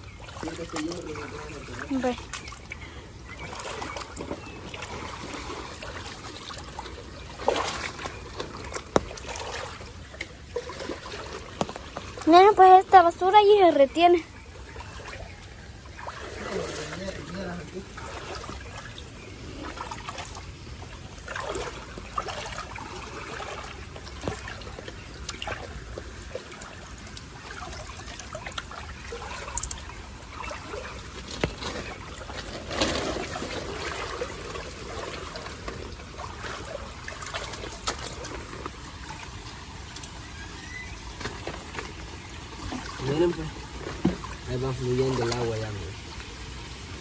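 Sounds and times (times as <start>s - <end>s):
water trickling and splashing: 0.0s - 47.0s.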